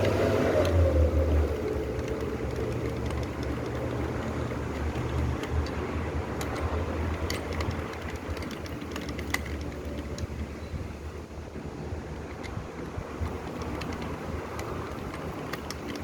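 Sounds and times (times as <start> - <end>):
light clicks and ticks: 0.0 - 10.9, 12.2 - 16.0
low mechanical rumble: 0.0 - 15.9.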